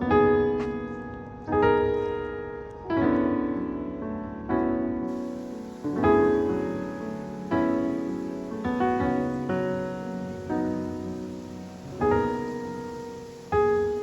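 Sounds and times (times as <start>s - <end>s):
slow soft piano chords: 0.0s - 14.0s.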